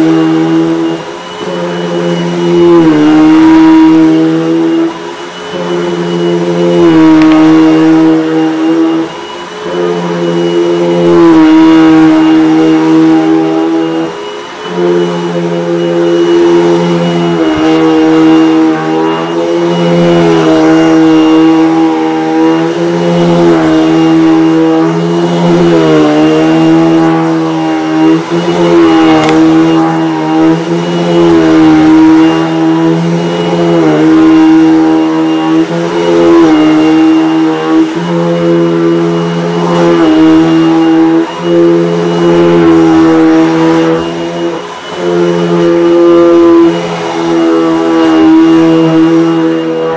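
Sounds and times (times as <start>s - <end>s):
vacuum cleaner high whine: 0.0s - 49.9s.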